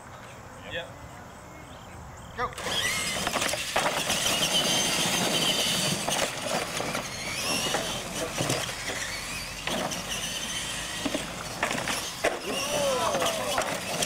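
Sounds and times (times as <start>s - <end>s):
electric motors whining: 2.5s - 14.0s.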